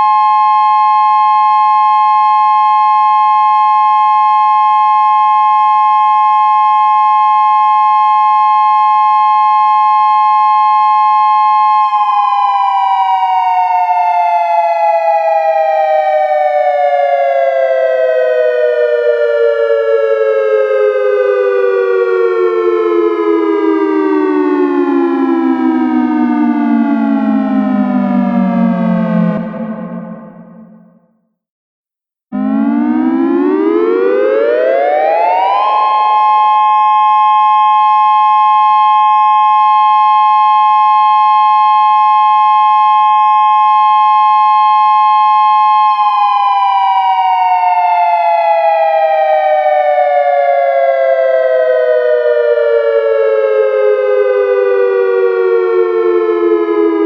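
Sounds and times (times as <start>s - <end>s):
electronic siren dual tone: 0.0s - 31.2s, 32.3s - 57.0s.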